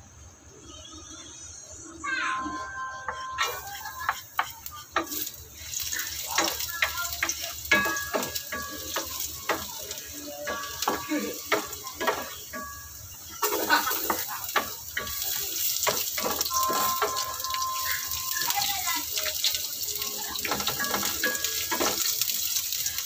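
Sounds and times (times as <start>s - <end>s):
garlic sizzling in oil: 2.2s - 23.0s
spatula scraping a pan: 2.4s - 22.5s.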